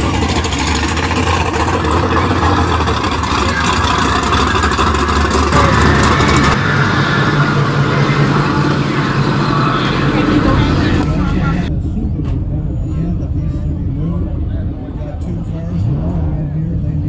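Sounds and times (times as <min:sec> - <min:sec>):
car engine running: 0:00.0 - 0:17.0
crowd noise: 0:00.0 - 0:17.0.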